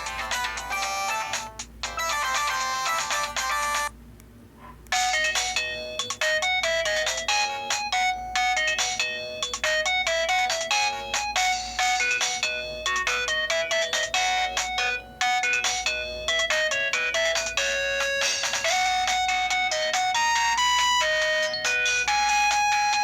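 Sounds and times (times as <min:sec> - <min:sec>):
distorted phone ringtone melodies: 0:00.0 - 0:03.9, 0:04.9 - 0:23.0.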